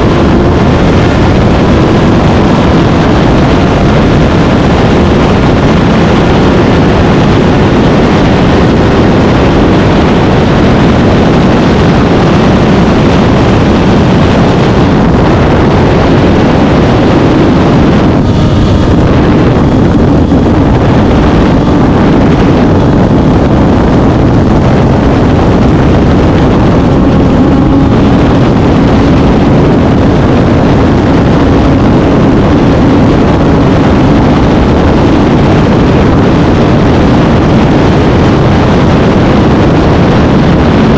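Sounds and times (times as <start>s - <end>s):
motorcycle engine cruising: 0.0s - 40.9s
wind rushing on microphone: 0.0s - 40.9s.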